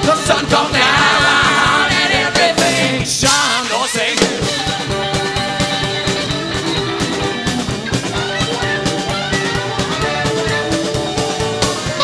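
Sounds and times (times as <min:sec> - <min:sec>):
guitar: 0:00.0 - 0:12.0
live band playing: 0:00.0 - 0:12.0
steady drum beat: 0:00.0 - 0:12.0.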